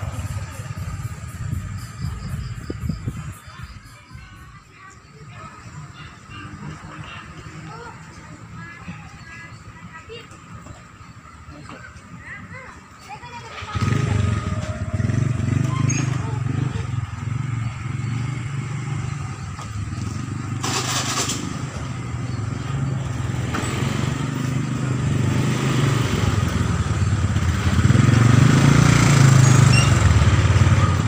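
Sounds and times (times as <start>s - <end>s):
motorcycle engine running: 0.0s - 4.6s, 5.7s - 31.0s.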